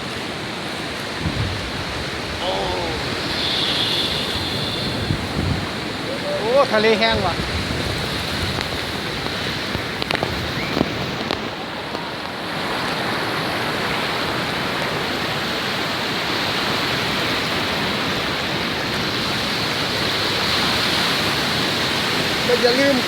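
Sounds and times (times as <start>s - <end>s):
sea surf rushing: 0.0s - 23.0s.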